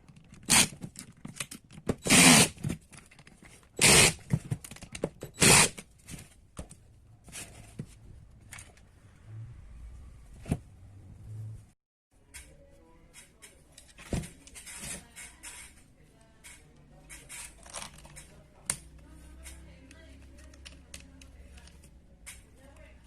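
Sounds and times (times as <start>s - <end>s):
clicks and scrapes of parts: 0.0s - 8.9s, 12.3s - 22.8s.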